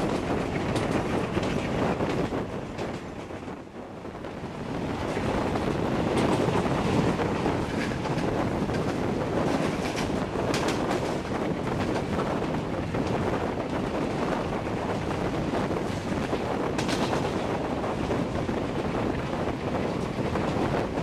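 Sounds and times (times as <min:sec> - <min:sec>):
train coaches running on rails: 0:00.0 - 0:21.0
wind buffeting microphone: 0:00.0 - 0:21.0.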